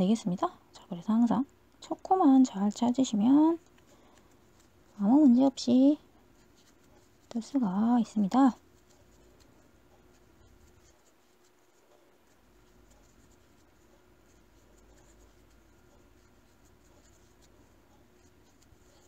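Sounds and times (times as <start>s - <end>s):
low room hum: 0.0s - 19.0s
crochet hook scratching yarn: 1.9s - 19.0s.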